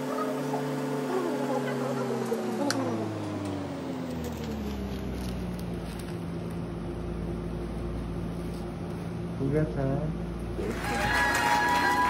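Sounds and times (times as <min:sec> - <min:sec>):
operating room machinery hum: 0:00.0 - 0:12.0.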